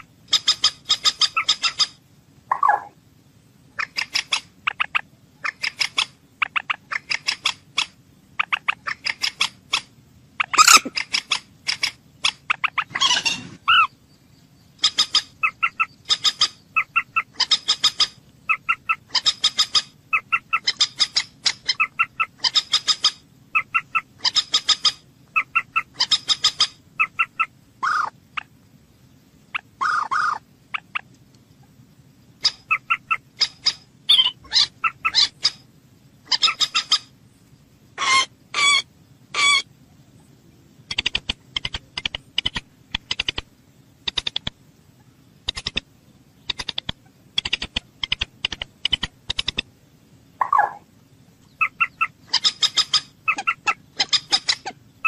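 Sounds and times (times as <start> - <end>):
moorhen calling: 0.0 - 3.0, 3.7 - 28.6, 29.4 - 37.3, 37.9 - 49.7, 50.4 - 55.0.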